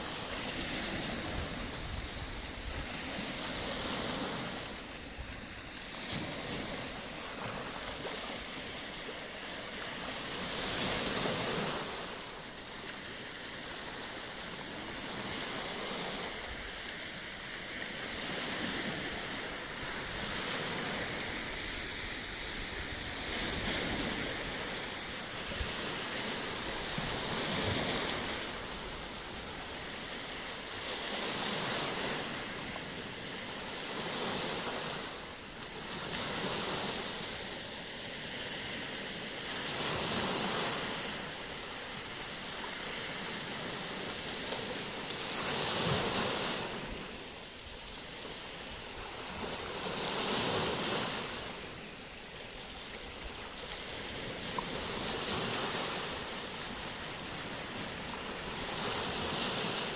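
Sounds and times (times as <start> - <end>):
waves breaking on pebble shore: 0.0 - 59.9.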